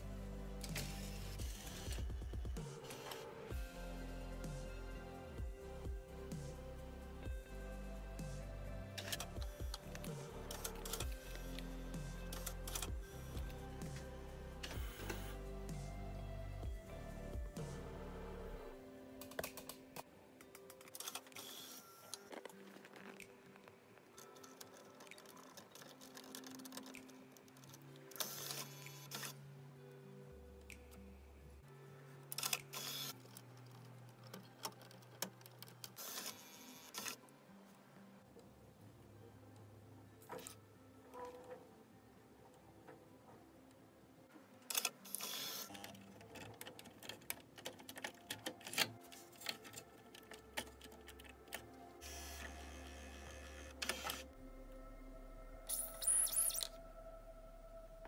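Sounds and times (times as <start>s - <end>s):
faint background music: 0.0s - 58.0s.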